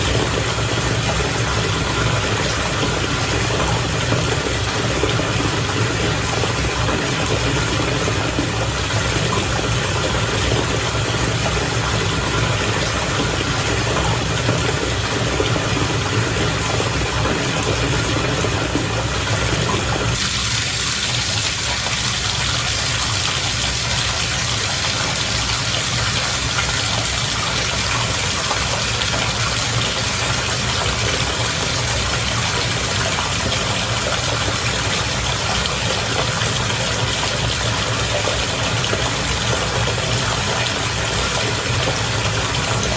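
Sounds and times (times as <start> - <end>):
bubbling bath water: 0.0 - 42.9.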